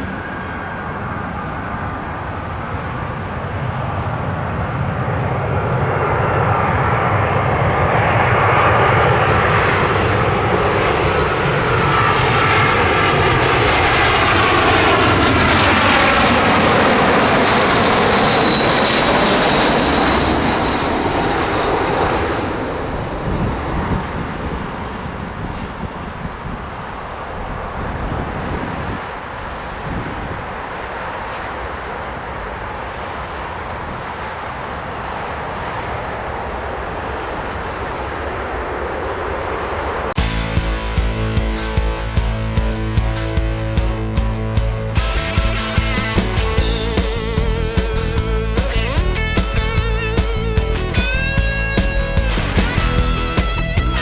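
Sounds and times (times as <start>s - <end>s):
jet aircraft passing with engine whine: 0.0s - 54.0s.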